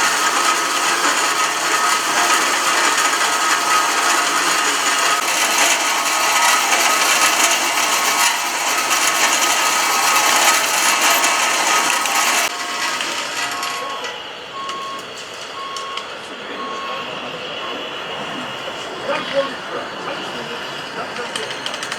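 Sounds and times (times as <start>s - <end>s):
electric motors whirring: 0.0s - 21.9s
reversing beeper: 0.4s - 21.9s.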